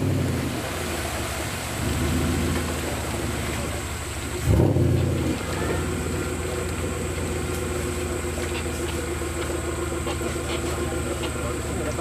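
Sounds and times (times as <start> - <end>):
engine running and revving: 0.0 - 12.0.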